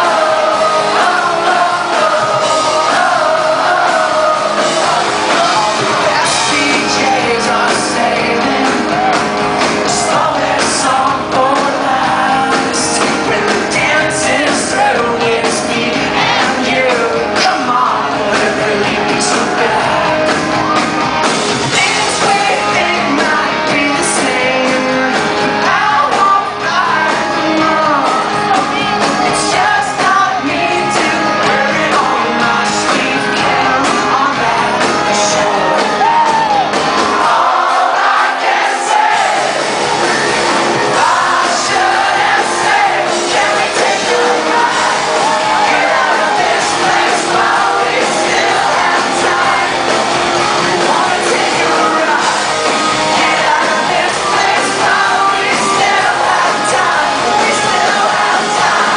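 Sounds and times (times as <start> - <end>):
lead vocal singing: 0.0 - 58.9
live rock band playing: 0.0 - 58.9.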